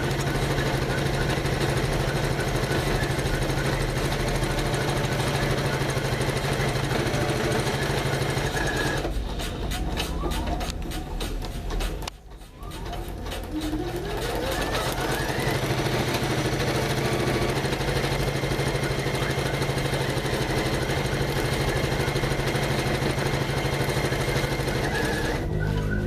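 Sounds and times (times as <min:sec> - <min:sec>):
embroidery machine whine: 0:00.0 - 0:26.0.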